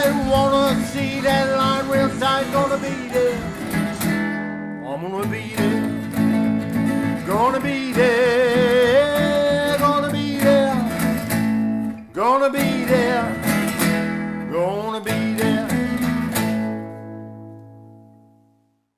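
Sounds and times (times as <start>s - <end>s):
country song on acoustic guitar: 0.0s - 18.3s.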